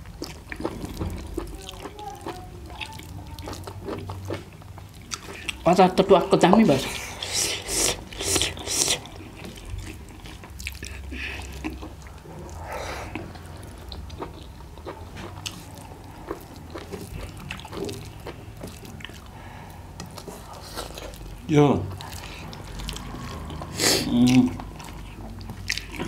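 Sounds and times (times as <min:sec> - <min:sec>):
chewing and wet mouth clicks: 0:00.1 - 0:05.7, 0:07.8 - 0:19.3, 0:20.0 - 0:26.0.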